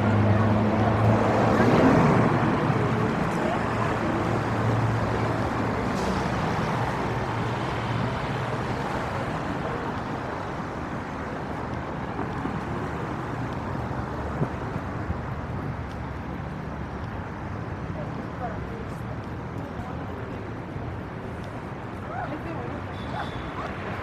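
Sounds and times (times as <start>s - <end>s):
rumble of street traffic: 0.0s - 24.0s.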